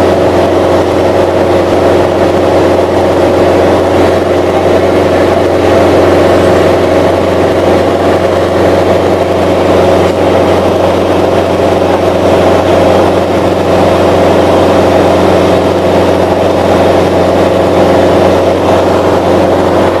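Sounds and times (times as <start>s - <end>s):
aircraft engine and propeller droning: 0.0s - 20.0s.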